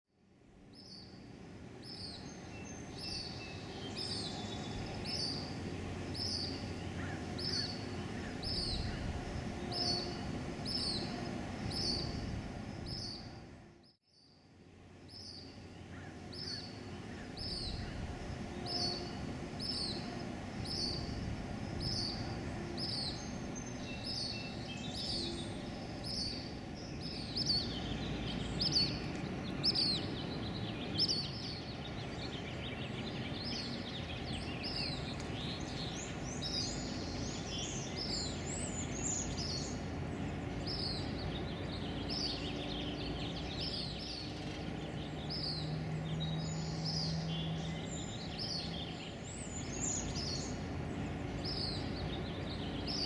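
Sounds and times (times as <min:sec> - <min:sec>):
low background rumble: 0:00.4 - 0:53.0.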